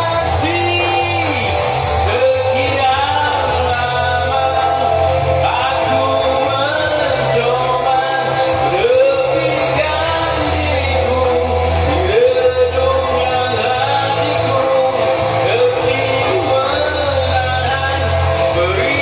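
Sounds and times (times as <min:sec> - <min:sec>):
backing track with bass: 0:00.0 - 0:19.0
person singing karaoke: 0:00.0 - 0:19.0.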